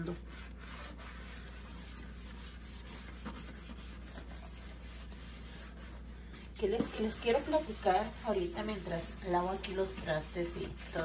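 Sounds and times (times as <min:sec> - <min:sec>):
sponge scrubbing dishes: 0:00.0 - 0:11.0.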